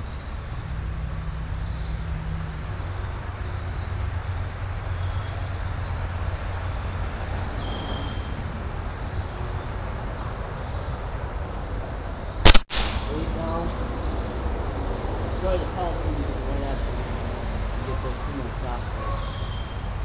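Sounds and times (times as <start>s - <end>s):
low outdoor background rumble: 0.0s - 20.0s.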